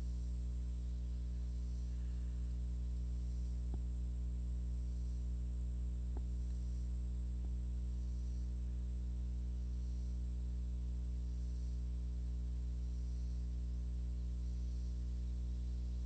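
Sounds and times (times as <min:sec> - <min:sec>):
faint high whine: 0:00.0 - 0:16.0
low electrical hum: 0:00.0 - 0:16.0.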